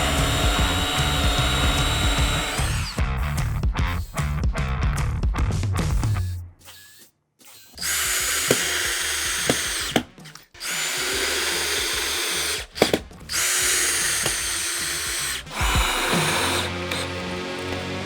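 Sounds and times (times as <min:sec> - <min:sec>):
power drill boring into wood: 0:00.0 - 0:03.1, 0:06.0 - 0:18.0.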